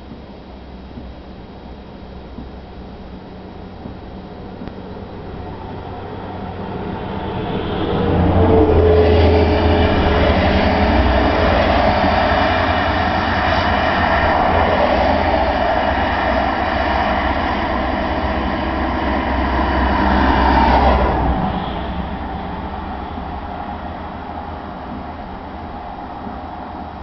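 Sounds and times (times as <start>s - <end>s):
car engine drone: 0.0s - 27.0s.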